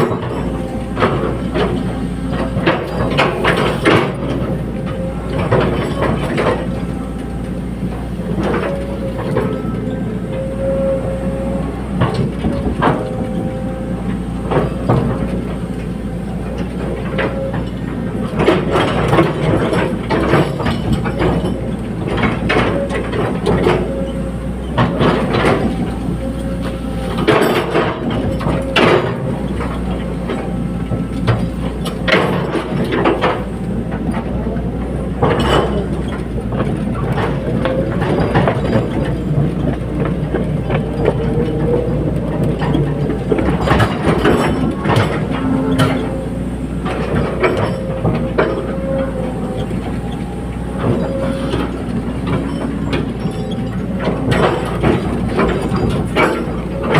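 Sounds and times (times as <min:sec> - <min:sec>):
excavator diesel engine droning: 0:00.0 - 0:56.9
metallic clanks and knocks: 0:00.0 - 0:56.9.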